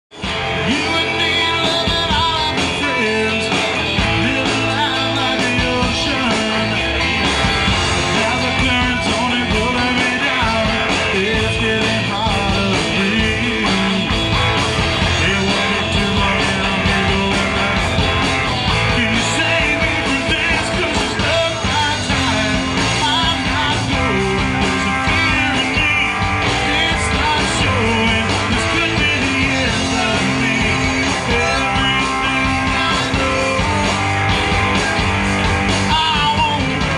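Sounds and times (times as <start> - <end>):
bass guitar: 0.0 - 36.9
drum kit beat: 0.1 - 36.9
electric guitars: 0.1 - 36.9.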